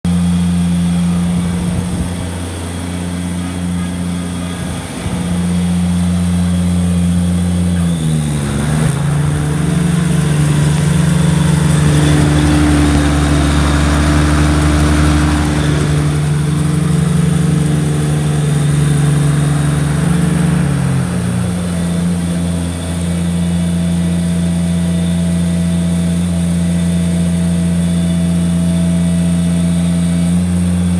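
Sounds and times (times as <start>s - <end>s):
mower diesel engine running: 0.0s - 30.9s.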